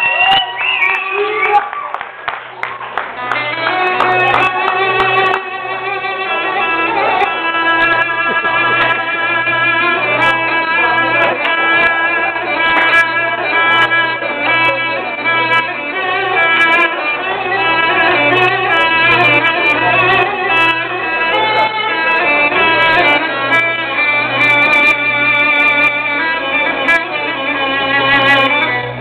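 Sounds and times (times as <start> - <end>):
fiddle-like melody: 2.6 - 29.0.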